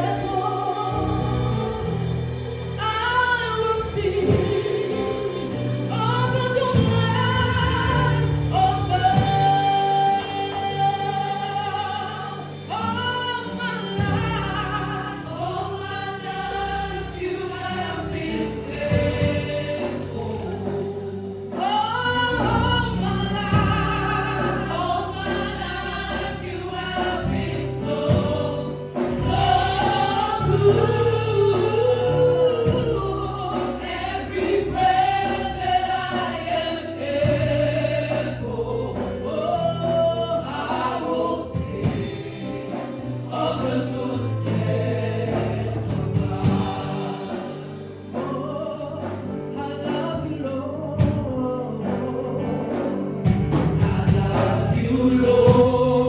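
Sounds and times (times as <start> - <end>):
bass and keyboard accompaniment: 0.0 - 56.0
congregation singing: 0.0 - 56.0.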